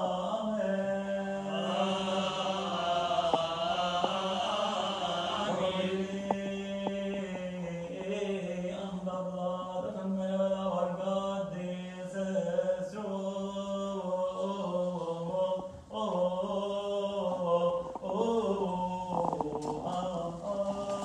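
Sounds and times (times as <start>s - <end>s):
voices chanting a hymn: 0.0s - 21.0s.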